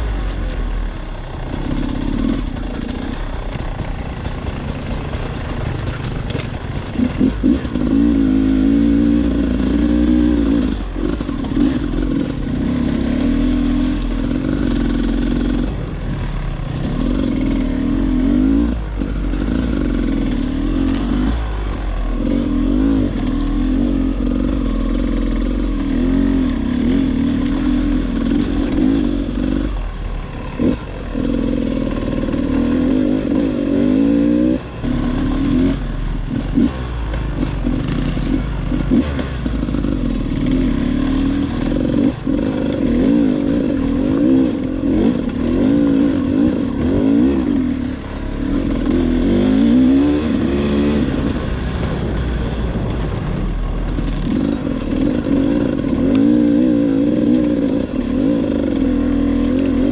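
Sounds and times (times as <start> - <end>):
clatter from rough ground: 0.0 - 59.9
motorcycle engine revving: 0.0 - 59.9.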